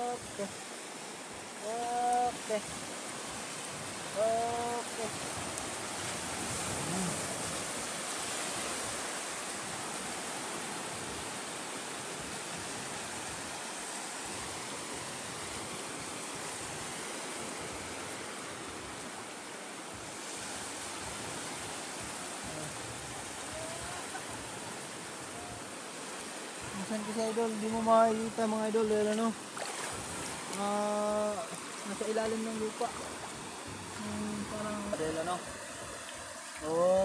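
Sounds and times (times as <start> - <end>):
small waves washing on shore: 0.0 - 37.0.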